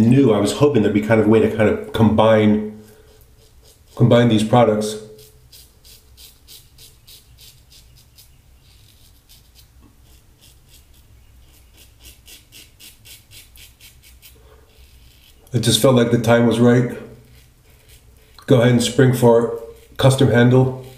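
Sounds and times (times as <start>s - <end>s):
razor scraping stubble: 1.8s - 20.9s.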